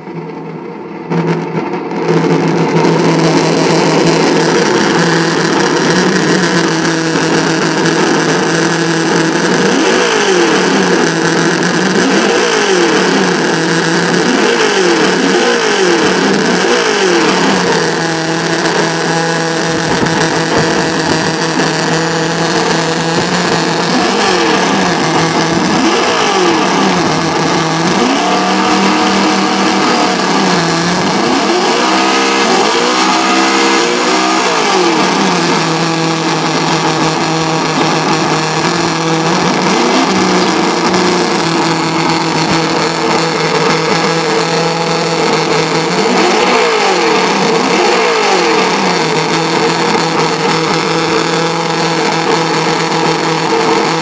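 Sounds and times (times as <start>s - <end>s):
simulated engine from speaker: 0.0s - 54.0s.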